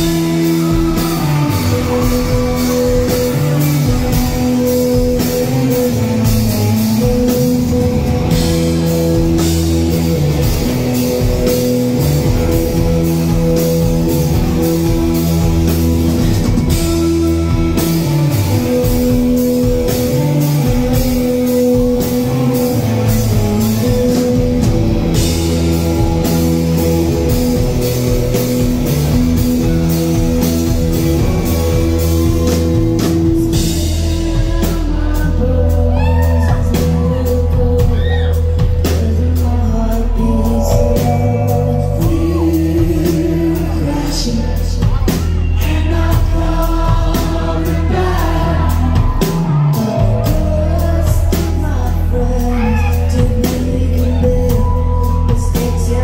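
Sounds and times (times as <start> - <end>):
bass guitar: 0.0 - 56.0
drum kit beat: 0.0 - 56.0
electric guitars: 0.0 - 56.0.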